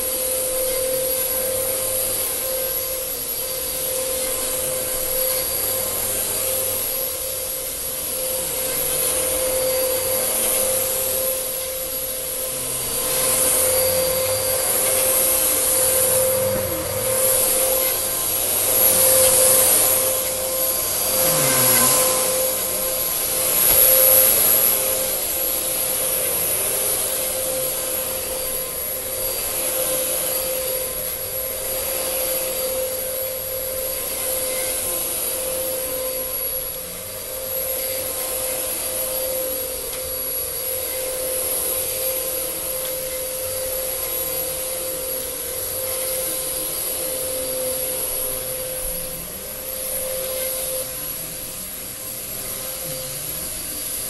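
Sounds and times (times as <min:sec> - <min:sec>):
suction rushing on carpet: 0:00.0 - 0:54.0
vacuum cleaner motor whine: 0:00.0 - 0:54.0.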